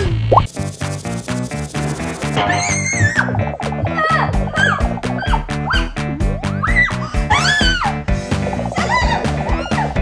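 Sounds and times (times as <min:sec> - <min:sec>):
upbeat background music: 0:00.3 - 0:10.0.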